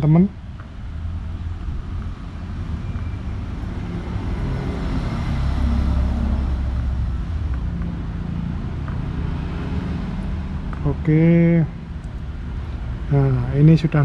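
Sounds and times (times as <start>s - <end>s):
vehicle rumbling past: 0.4s - 14.0s.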